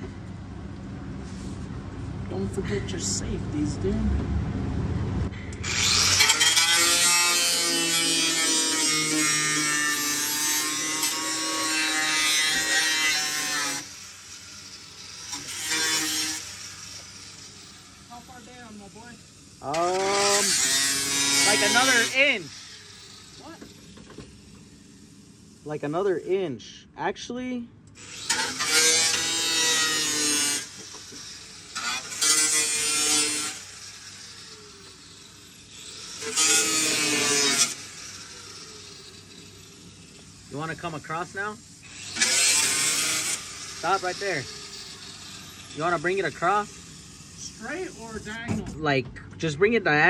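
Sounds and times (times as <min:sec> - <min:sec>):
angle grinder cutting sheet steel: 0:05.6 - 0:26.4, 0:28.0 - 0:48.5.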